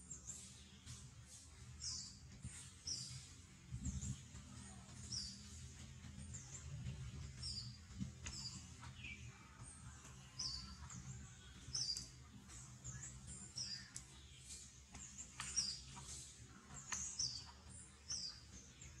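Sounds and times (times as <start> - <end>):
low steady rumble: 0.0 - 19.0
small birds chirping: 0.0 - 19.0.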